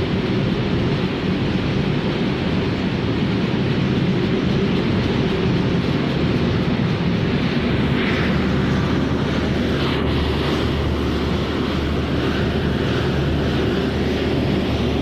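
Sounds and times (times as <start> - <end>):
factory machinery drone: 0.0 - 15.0.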